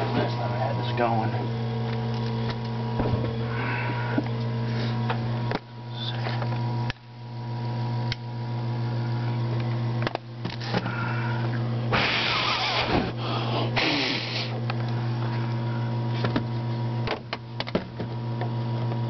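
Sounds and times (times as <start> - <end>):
compressor pump humming: 0.0 - 19.0.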